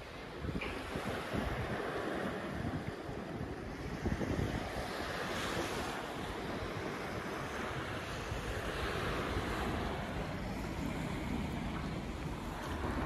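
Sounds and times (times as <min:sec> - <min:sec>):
surf washing on sand: 0:00.0 - 0:13.0
wind buffeting microphone: 0:00.0 - 0:13.0.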